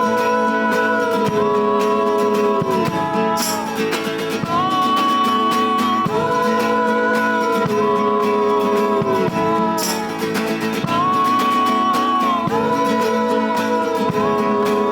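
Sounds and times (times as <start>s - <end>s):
acoustic guitar chords: 0.0s - 14.9s.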